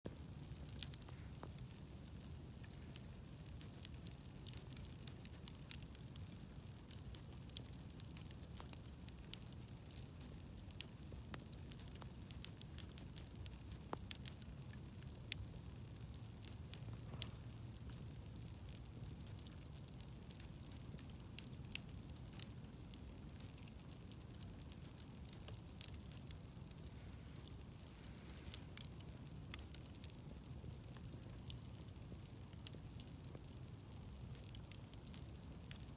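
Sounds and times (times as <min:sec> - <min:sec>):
low rumble of flames: 0:00.0 - 0:35.9
campfire crackling and popping: 0:00.1 - 0:35.9.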